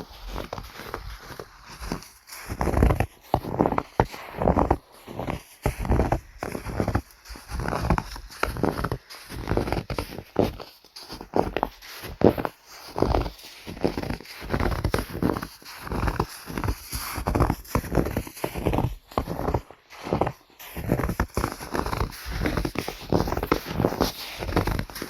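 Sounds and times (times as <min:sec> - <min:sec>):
footsteps crunching in snow: 0:00.0 - 0:25.0.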